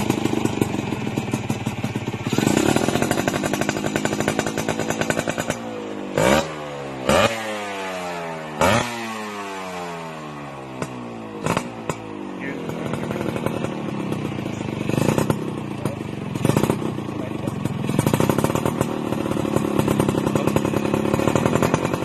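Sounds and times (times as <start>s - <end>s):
motorcycle revving with crackling: 0.0s - 22.0s
motorcycle throttle blips: 0.0s - 22.0s.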